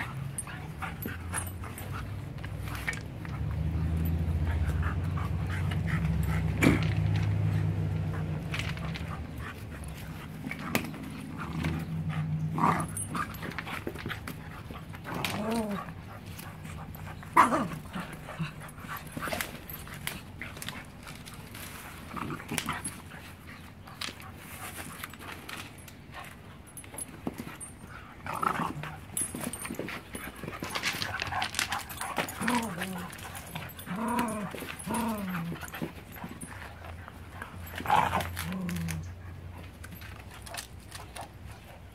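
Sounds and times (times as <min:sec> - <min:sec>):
puppies play-wrestling: 0:00.0 - 0:41.9.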